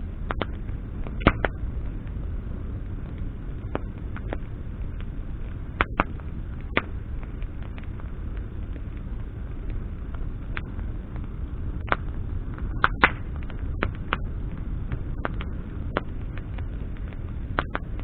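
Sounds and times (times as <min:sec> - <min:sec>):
campfire crackling: 0:00.0 - 0:18.0
low rumble of flames: 0:00.0 - 0:18.0.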